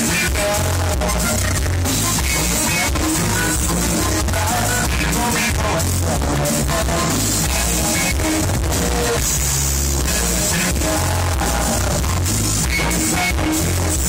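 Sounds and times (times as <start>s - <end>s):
heavy bass notes: 0.0s - 14.0s
live band playing amplified music: 0.0s - 14.0s.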